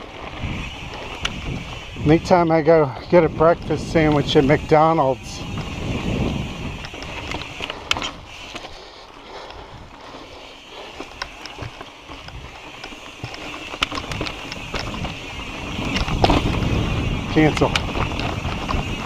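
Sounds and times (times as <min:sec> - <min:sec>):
bike clicks and knocks: 0:00.0 - 0:19.0
tyre and trail noise: 0:00.0 - 0:19.0
wind on microphone: 0:00.2 - 0:08.4, 0:11.0 - 0:19.0.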